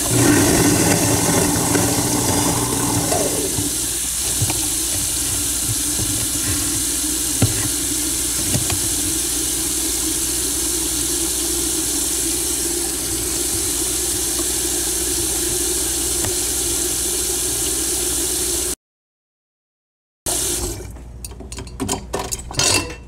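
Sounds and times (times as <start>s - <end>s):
faucet running: 0.0s - 18.8s, 20.3s - 20.8s.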